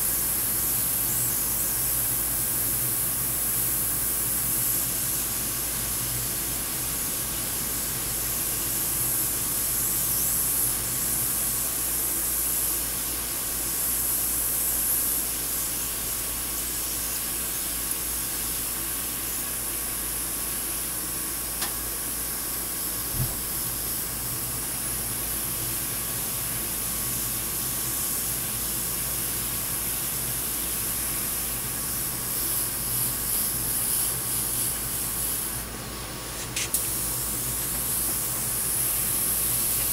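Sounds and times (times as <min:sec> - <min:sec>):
airbrush spraying air hiss: 0:00.0 - 0:39.9.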